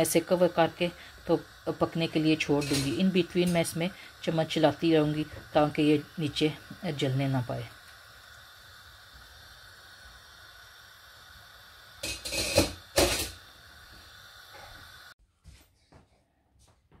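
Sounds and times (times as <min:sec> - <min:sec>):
pot boiling on gas flame: 0:00.0 - 0:15.2.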